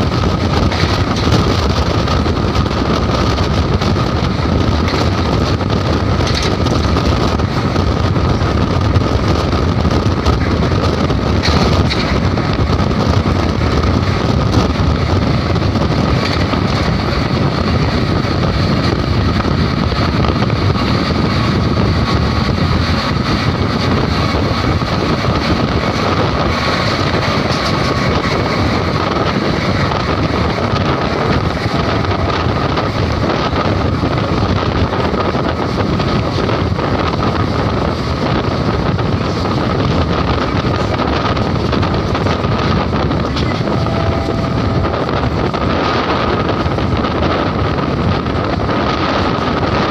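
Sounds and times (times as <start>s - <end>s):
steady whine: 0.0s - 49.9s
train running: 0.0s - 49.9s
wind on microphone: 0.0s - 49.9s.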